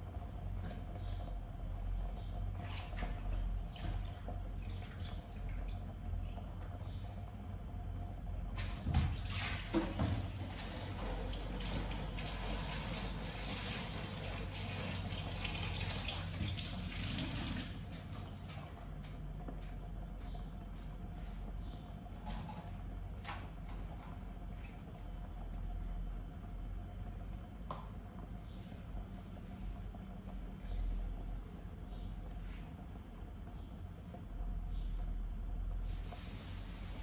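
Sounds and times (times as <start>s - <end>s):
soup bubbling with fizzy hiss: 0.0s - 19.6s, 21.0s - 37.0s.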